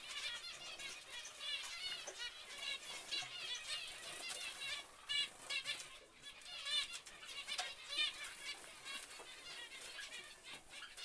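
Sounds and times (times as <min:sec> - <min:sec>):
finches chattering: 0:00.0 - 0:11.0.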